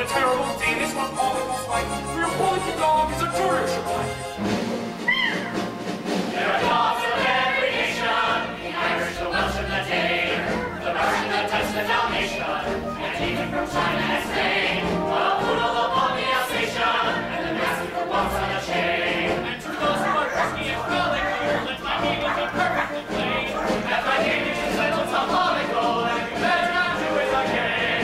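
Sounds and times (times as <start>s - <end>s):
chorus singing: 0.0s - 5.0s, 5.6s - 28.0s
instrumental accompaniment: 0.0s - 28.0s.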